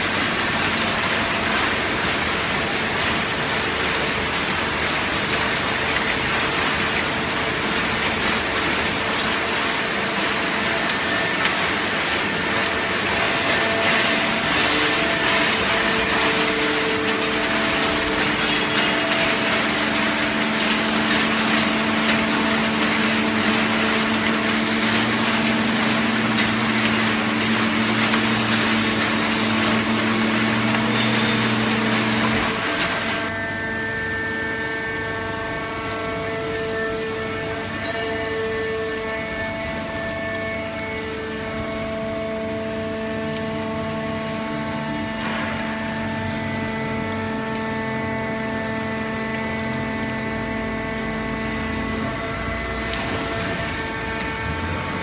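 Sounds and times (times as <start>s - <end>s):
baler machine humming: 0.0s - 55.0s.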